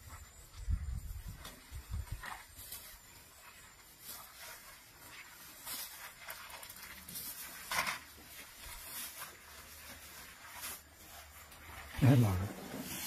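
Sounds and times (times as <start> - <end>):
grass rustling and swishing: 0.0 - 13.0.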